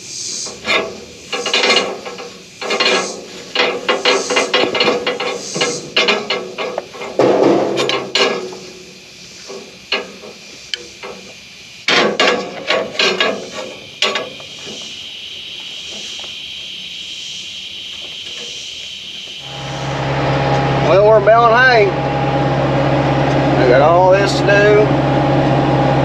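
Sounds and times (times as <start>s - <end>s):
steady hiss: 0.0s - 21.9s.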